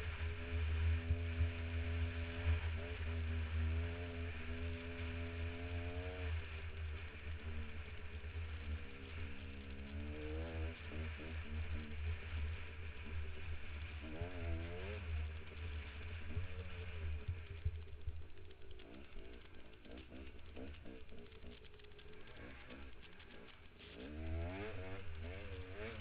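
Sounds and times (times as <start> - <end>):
dirt bike engine revving: 2.0 - 17.8, 18.5 - 26.0.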